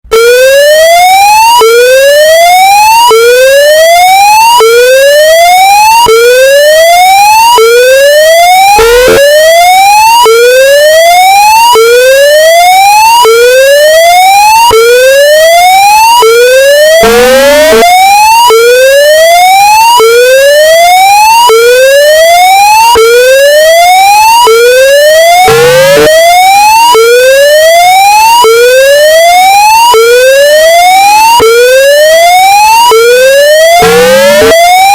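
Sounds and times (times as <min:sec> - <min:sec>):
rising electronic alarm whoop: 0:00.0 - 0:34.9.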